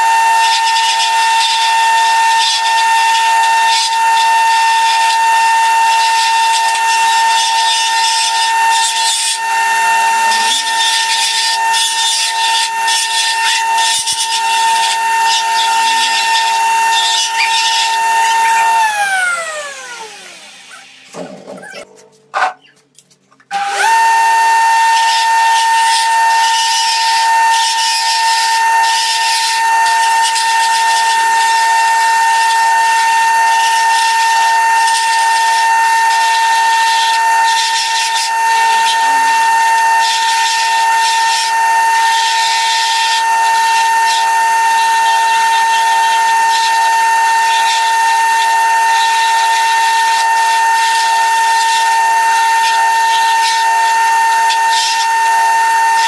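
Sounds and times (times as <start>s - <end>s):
wood lathe whining: 0.0s - 21.4s, 23.5s - 56.0s.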